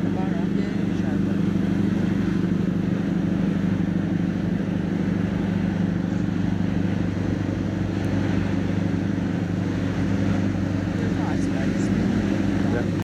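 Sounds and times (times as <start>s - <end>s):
boat engine low drone: 0.0s - 13.0s.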